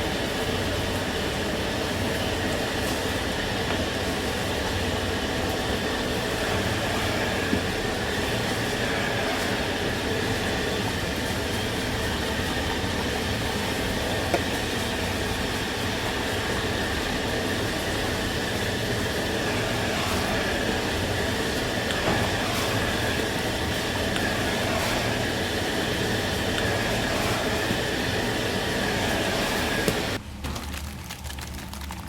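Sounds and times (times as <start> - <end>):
gas burners and ventilation roar: 0.0 - 32.0.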